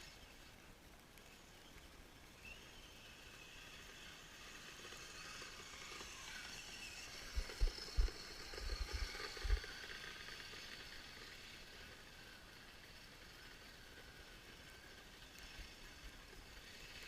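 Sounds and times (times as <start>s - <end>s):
electric motor and gears whining: 2.4s - 17.0s.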